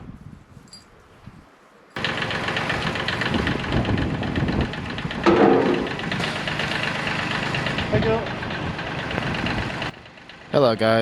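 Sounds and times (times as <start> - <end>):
tractor engine running: 2.0 - 11.0.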